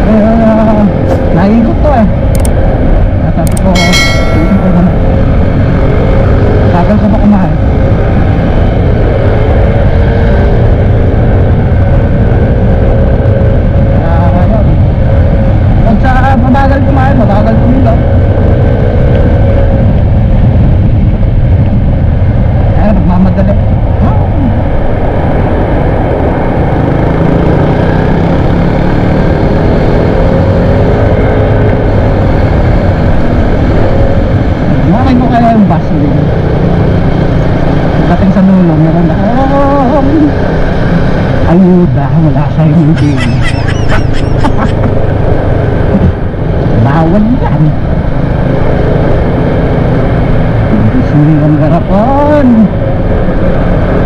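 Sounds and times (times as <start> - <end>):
scooter engine and road noise: 0.0 - 54.0
wind rush on microphone: 0.0 - 54.0.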